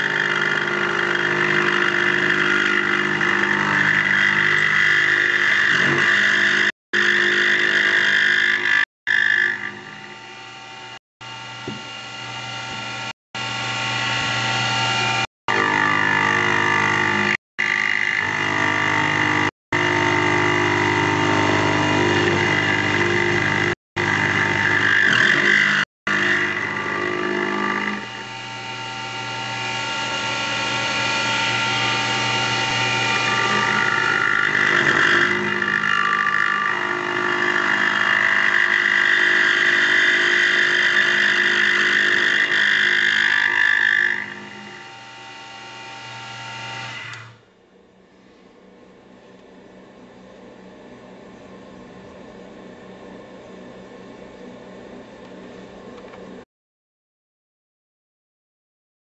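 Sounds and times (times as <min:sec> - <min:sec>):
lathe motor whine: 0:00.0 - 0:47.5.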